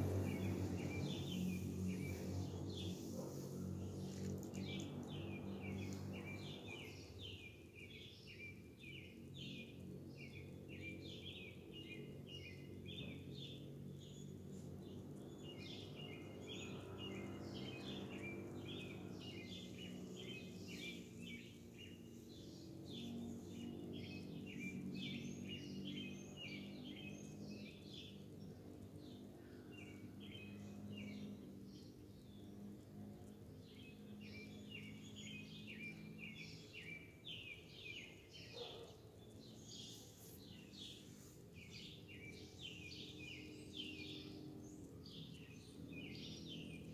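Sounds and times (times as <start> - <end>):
steady low hum: 0.0 - 38.4
small birds chirping: 0.0 - 46.9.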